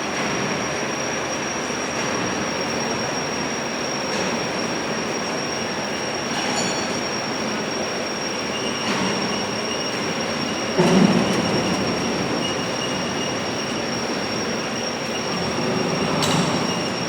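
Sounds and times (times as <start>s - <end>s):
furnace running: 0.0s - 17.0s.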